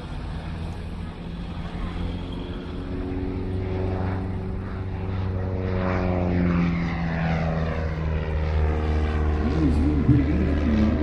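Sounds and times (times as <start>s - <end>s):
propeller airplane engine droning: 0.0s - 11.0s.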